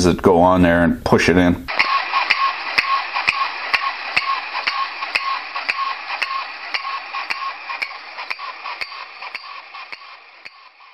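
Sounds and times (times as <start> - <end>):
clockwork mechanism whirring: 1.7 - 10.9
toy monkey clashing cymbals: 1.7 - 10.9.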